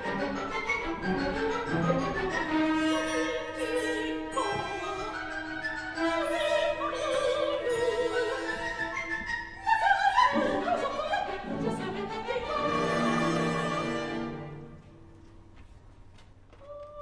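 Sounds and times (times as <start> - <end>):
soprano singing opera: 0.0 - 14.4
full orchestra: 0.0 - 15.1.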